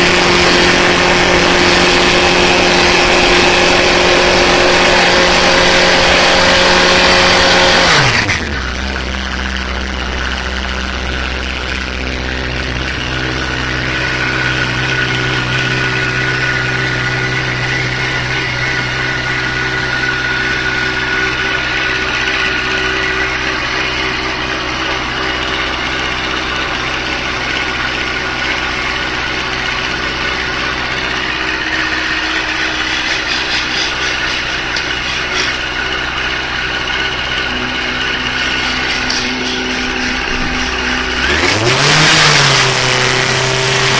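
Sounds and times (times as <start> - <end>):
motorcycle engine idling: 0.0 - 41.8.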